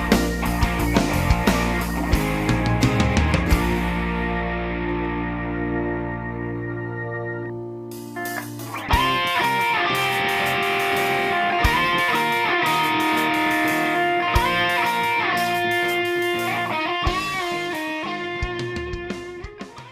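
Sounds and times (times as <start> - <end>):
slow beat: 0.0 - 5.3, 7.8 - 19.9
electric guitar bending notes: 0.0 - 19.9.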